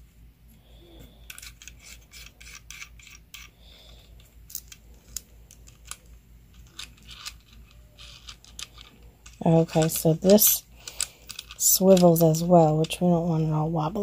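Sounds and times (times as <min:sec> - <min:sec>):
plastic parts clicking and scraping: 0:01.1 - 0:13.4.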